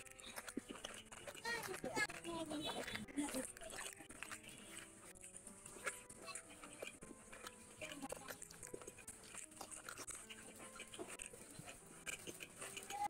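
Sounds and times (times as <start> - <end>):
person chewing food: 0.0 - 13.0
wet mouth clicks and smacks: 0.0 - 13.0.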